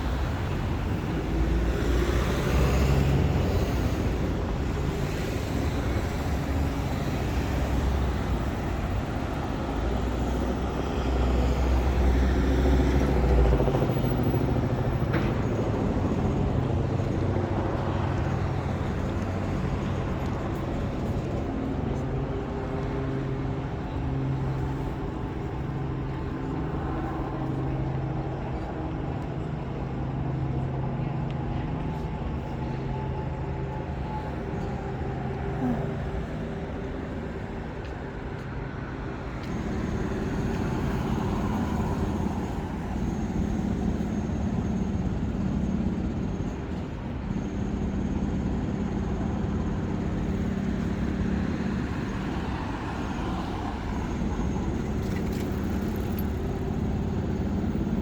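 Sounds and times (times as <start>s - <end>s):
steady engine hum: 0.0s - 58.0s
vehicles passing: 0.0s - 58.0s.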